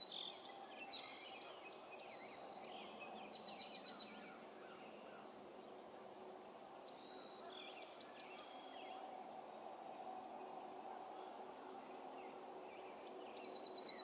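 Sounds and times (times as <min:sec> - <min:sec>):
songbird chirping and trilling: 0:00.0 - 0:14.0.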